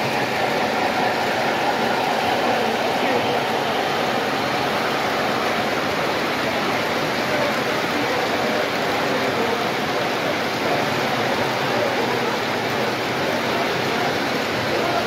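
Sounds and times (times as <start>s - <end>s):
model train rolling past: 0.0s - 15.0s.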